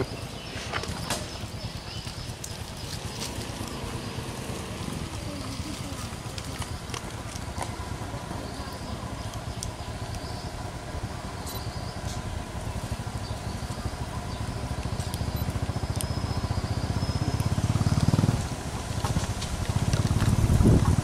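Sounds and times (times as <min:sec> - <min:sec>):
engine running rumble: 0:00.0 - 0:21.0.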